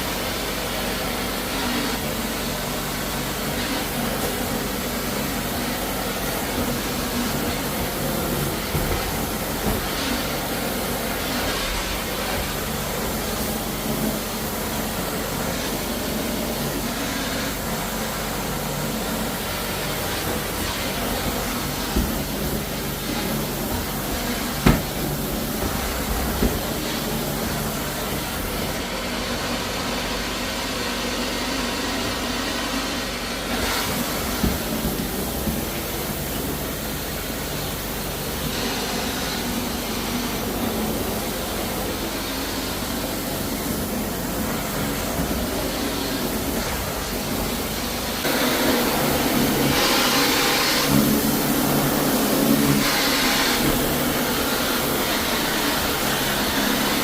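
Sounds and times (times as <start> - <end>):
floor-cleaning machine whirring: 0.0 - 57.0.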